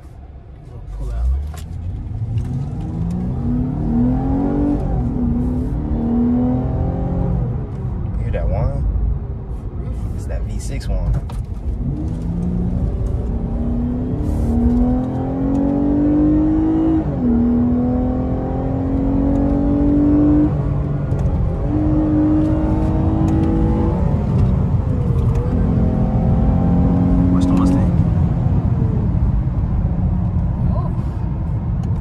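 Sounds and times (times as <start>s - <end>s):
car engine accelerating hard: 1.0s - 8.4s, 11.6s - 32.0s.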